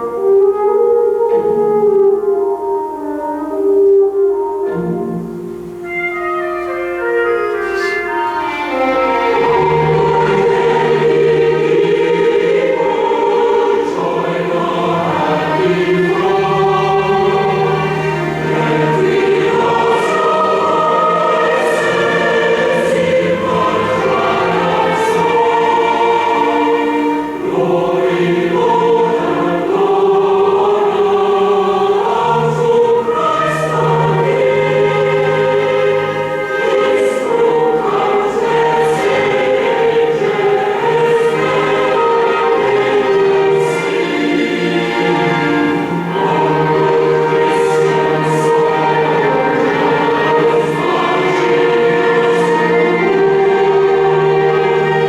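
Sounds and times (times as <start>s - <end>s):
choir singing a hymn: 0.0s - 55.0s
instrumental accompaniment: 0.0s - 55.0s.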